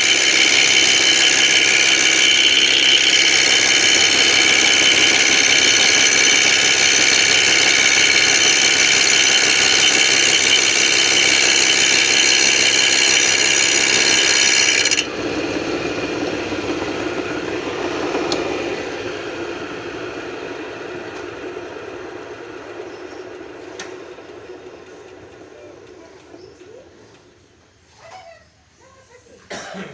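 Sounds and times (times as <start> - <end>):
lathe mechanical whine: 0.0 - 27.5.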